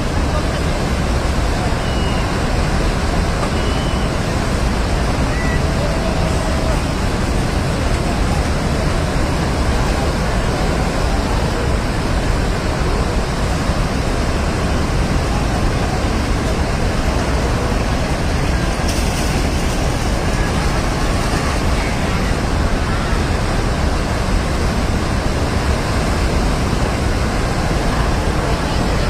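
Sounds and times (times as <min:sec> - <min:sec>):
rushing floodwater roar: 0:00.0 - 0:29.0.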